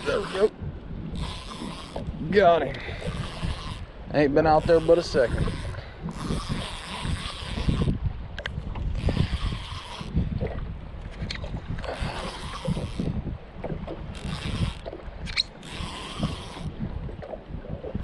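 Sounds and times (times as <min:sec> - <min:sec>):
fishing reel whirring: 0:00.0 - 0:10.3, 0:11.3 - 0:13.3, 0:14.1 - 0:16.8
wind buffeting microphone: 0:00.0 - 0:18.0.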